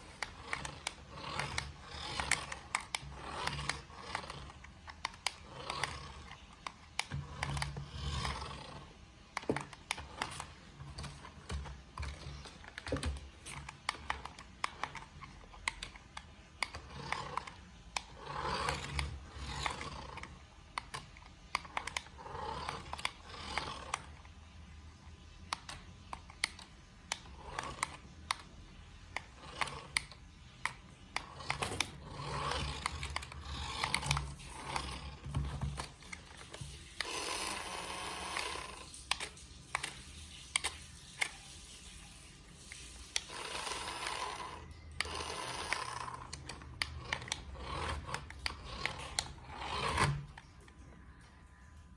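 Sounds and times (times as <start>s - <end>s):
toy car motor whirring: 0.0s - 24.4s, 25.1s - 50.4s
plastic clicks and clatters: 0.0s - 41.5s, 42.7s - 51.4s.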